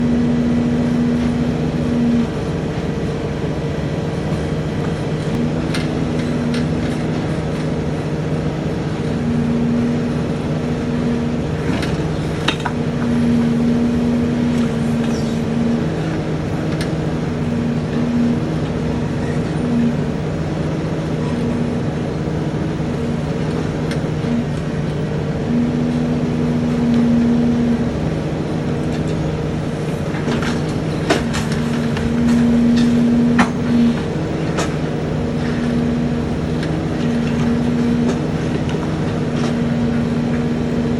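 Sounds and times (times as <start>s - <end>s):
truck engine humming: 0.0s - 40.9s.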